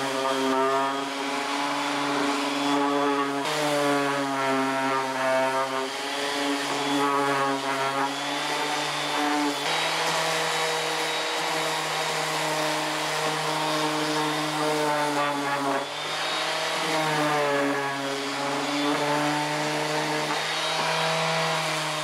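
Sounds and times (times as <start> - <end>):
orbital sander humming: 0.0 - 22.0.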